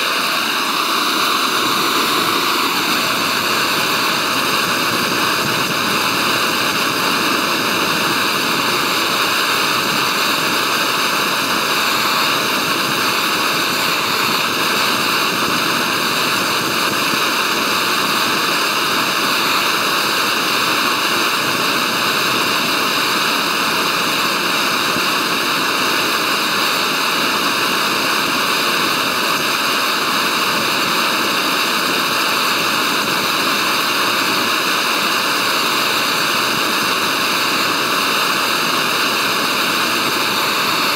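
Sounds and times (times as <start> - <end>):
gas stove flame hissing: 0.0 - 40.9.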